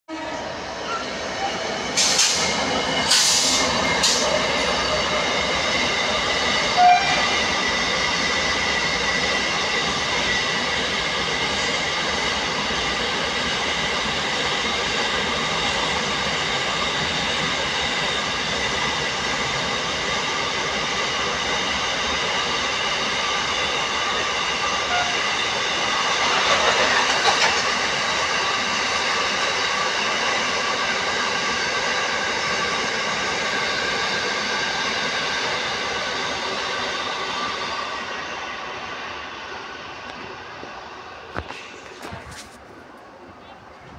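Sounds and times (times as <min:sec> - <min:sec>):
train wheels rolling on track: 0:00.1 - 0:43.9.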